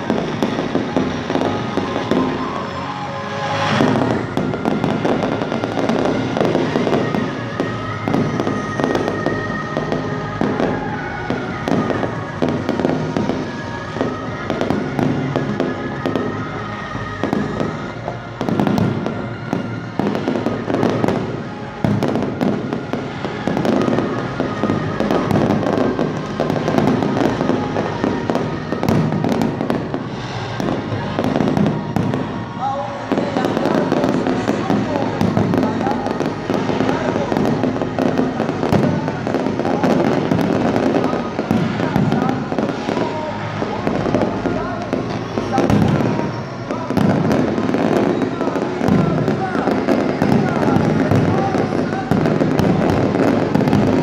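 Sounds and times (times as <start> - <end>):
fireworks bangs and crackling: 0.0 - 54.0
music playing: 0.0 - 54.0.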